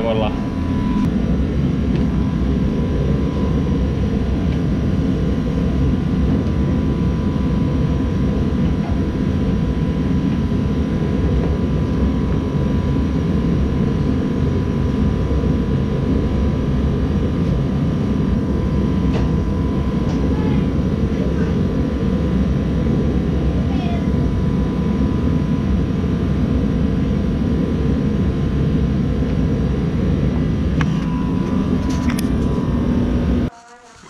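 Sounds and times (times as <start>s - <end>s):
blower fan running: 0.0s - 34.0s.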